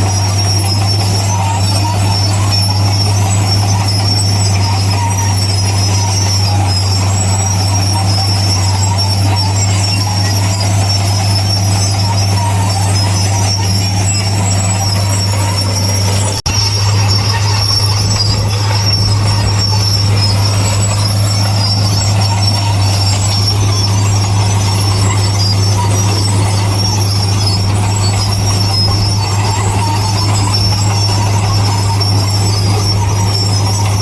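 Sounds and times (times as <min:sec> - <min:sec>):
high metallic squeal: 0:00.0 - 0:34.0
low diesel drone: 0:00.0 - 0:34.0.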